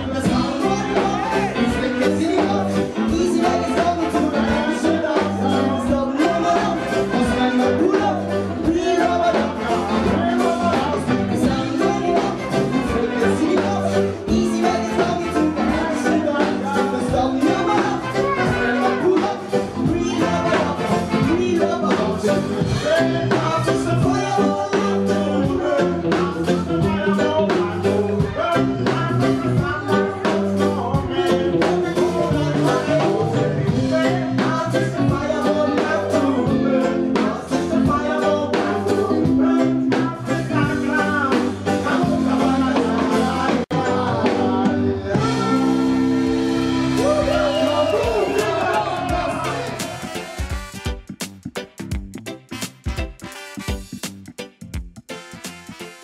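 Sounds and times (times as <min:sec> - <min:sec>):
person singing: 0:00.0 - 0:50.8
live band playing: 0:00.0 - 0:56.0.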